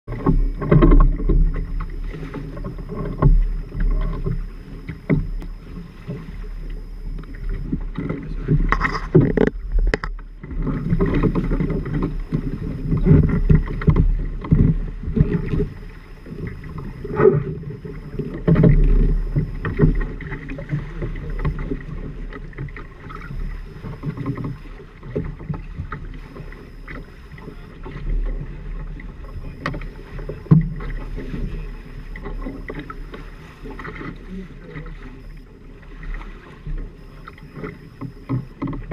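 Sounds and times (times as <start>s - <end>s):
water sloshing against hulls: 0.0s - 38.9s.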